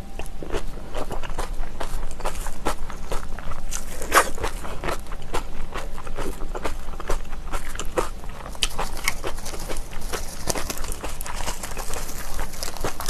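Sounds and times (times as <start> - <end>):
chewing crunchy food: 0.2 - 13.0.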